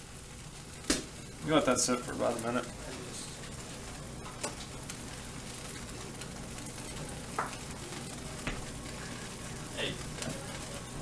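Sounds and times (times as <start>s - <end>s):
egg and bread sizzling in pan: 0.0s - 11.0s.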